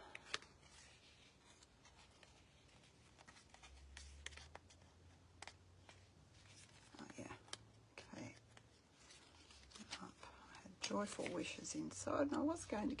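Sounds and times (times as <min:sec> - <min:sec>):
paper rustling: 0:00.1 - 0:07.6, 0:08.4 - 0:11.8.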